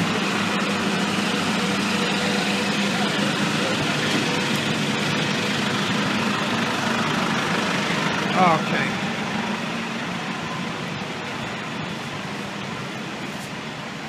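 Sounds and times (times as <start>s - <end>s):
diesel engine idling: 0.0s - 14.0s
faint voices: 0.0s - 14.0s.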